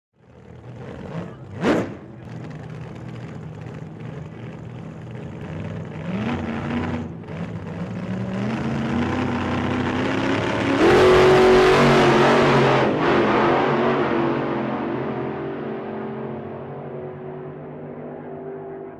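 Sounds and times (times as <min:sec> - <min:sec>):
car engine accelerating: 0:00.2 - 0:18.9.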